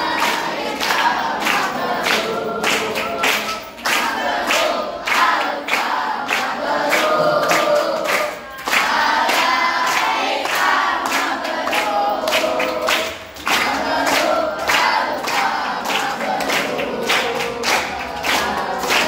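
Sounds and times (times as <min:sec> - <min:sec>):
boys singing in unison: 0:00.0 - 0:19.0
hands clapping steady beat: 0:00.0 - 0:19.0.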